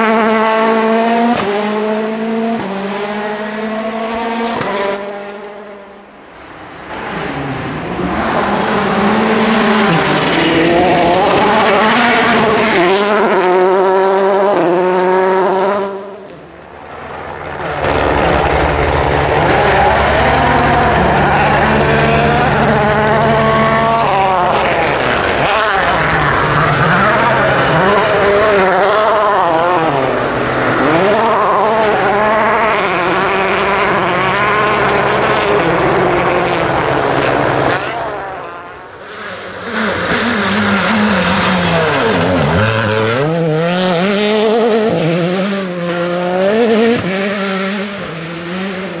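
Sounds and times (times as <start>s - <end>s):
rally car engines revving hard: 0.0s - 49.0s.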